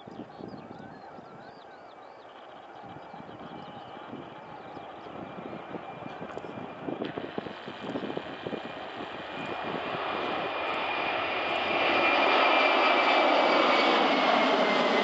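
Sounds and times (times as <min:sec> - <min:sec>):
jet engine roar on takeoff: 0:01.8 - 0:15.0.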